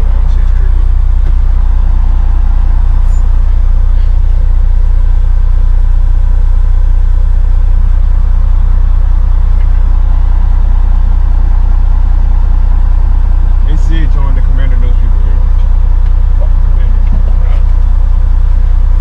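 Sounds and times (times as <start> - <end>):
road rumble: 0.0 - 19.0
truck engine drone: 0.0 - 19.0.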